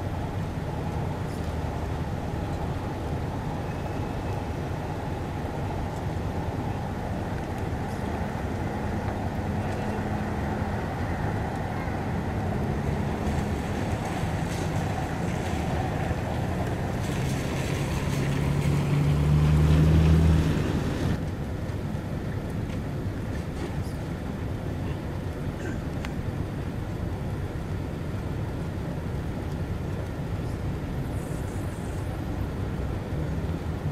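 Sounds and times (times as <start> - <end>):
car engines and exhausts: 0.0 - 33.9
tyre and rain noise: 0.1 - 33.9.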